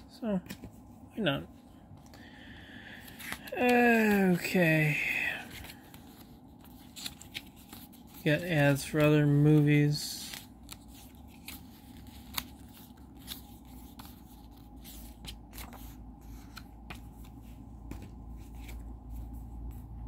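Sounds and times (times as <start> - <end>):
paper rustling: 2.0 - 20.0.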